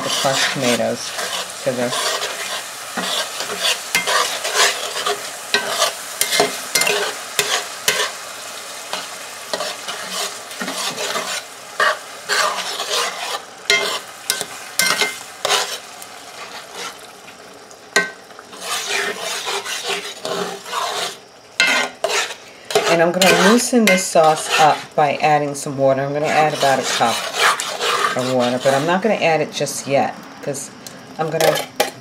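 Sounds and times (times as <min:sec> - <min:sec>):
metal spatula scraping skillet: 0:00.0 - 0:17.1, 0:18.0 - 0:25.0, 0:26.2 - 0:29.1, 0:31.4 - 0:32.0
pan sizzling: 0:00.0 - 0:32.0.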